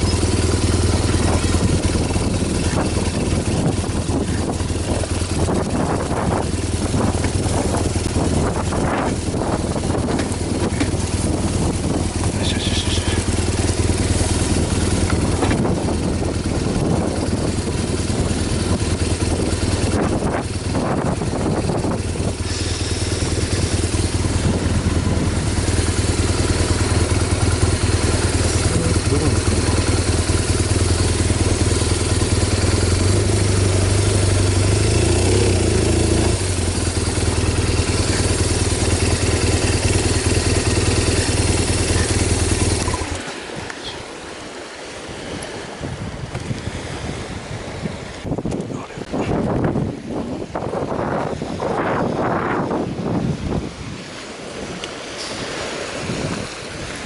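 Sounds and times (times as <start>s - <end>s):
wind buffeting microphone: 0.0s - 44.0s, 45.0s - 57.0s.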